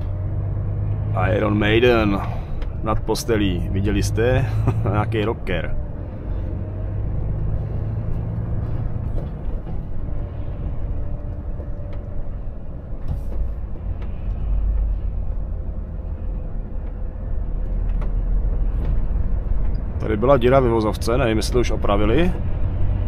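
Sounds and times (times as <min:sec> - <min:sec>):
road and tyre noise: 0:00.0 - 0:23.0
truck engine drone from cab: 0:00.0 - 0:23.0.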